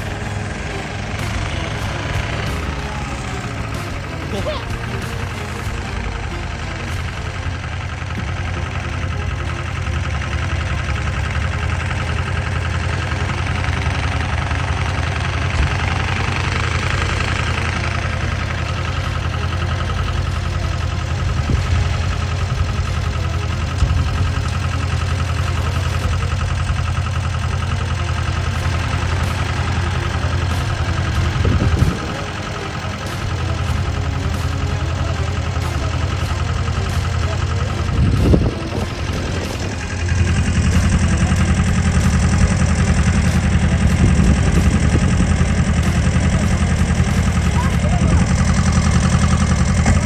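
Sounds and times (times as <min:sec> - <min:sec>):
diesel engine knocking: 0:00.0 - 0:50.0.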